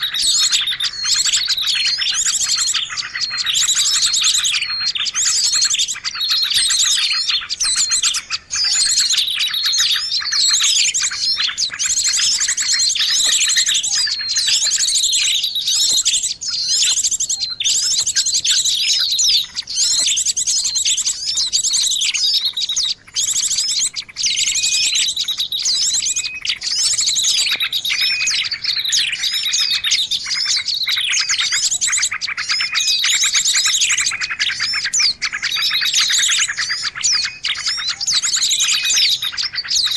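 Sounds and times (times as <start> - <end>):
songbirds chirping chorus: 0.0 - 39.9.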